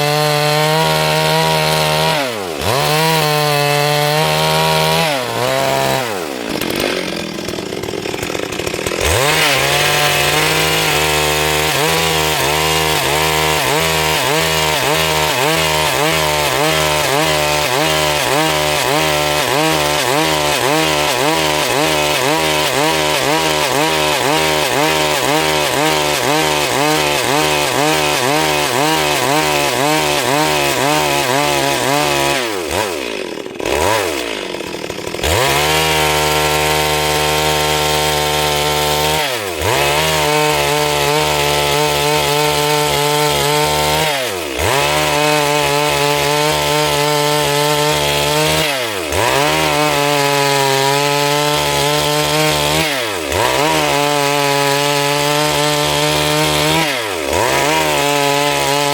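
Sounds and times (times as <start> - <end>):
chainsaw sawing wood: 0.0 - 58.9.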